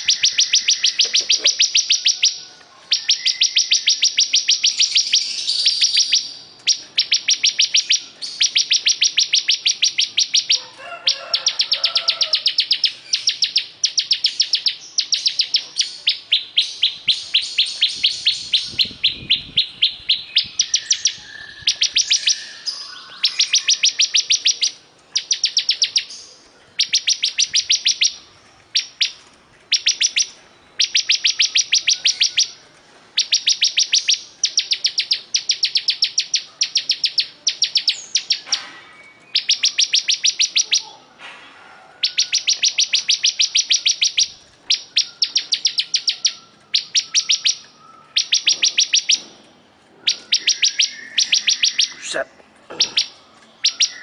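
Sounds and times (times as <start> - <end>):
bird singing fast trill: 0.0 - 10.6, 11.3 - 32.6, 33.2 - 40.9, 42.0 - 49.2, 50.0 - 52.2, 52.8 - 54.0.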